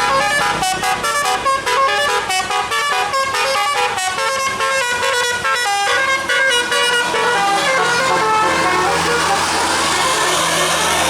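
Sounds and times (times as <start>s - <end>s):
musical air horn melody: 0.0s - 11.0s.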